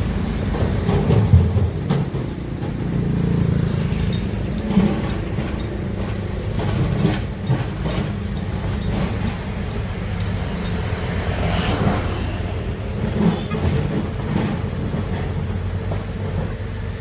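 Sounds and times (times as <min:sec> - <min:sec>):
metallic knocks: 0:00.0 - 0:15.3
diesel engine running: 0:00.0 - 0:17.0.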